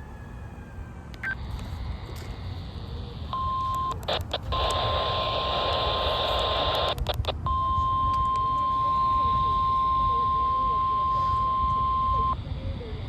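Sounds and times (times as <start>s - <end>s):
crackling static: 1.2s - 12.4s
radio alarm tone: 1.2s - 12.4s.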